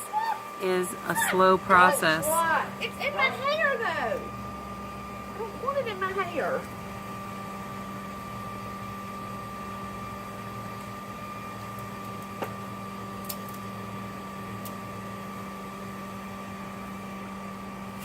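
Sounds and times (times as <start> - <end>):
vacuum humming and whining: 0.0 - 18.0.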